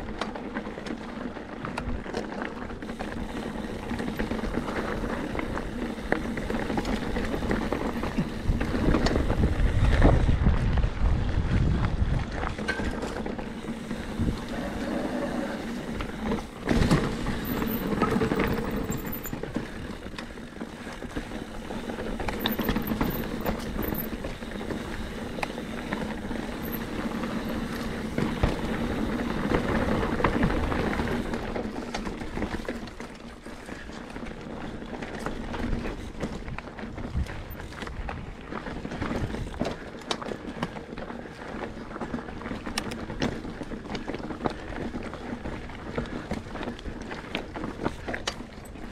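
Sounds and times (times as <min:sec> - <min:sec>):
bike knocking and rattling: 0:00.0 - 0:48.9
bike tyres rolling over gravel: 0:00.0 - 0:48.9
wind rumbling on microphone: 0:02.8 - 0:48.9.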